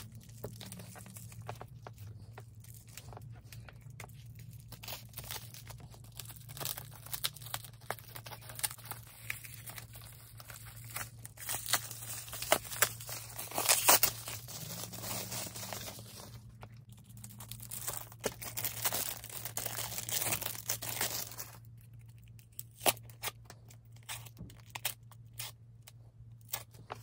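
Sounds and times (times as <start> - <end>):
low steady hum: 0.0 - 27.0
wrapping tearing and crinkling: 0.0 - 27.0.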